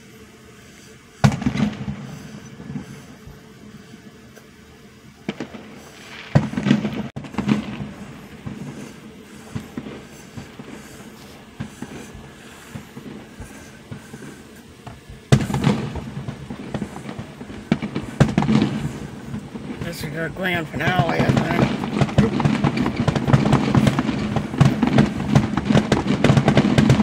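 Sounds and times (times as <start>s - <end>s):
firework shells booming and crackling: 0.0s - 27.0s.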